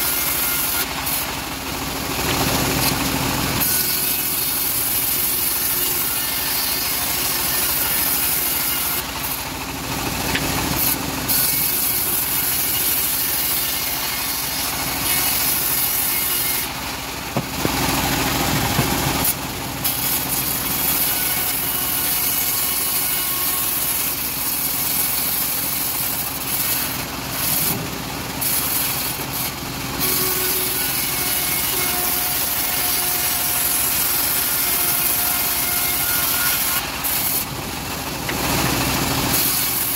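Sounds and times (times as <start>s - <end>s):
bandsaw blade cutting wood: 0.0s - 39.9s.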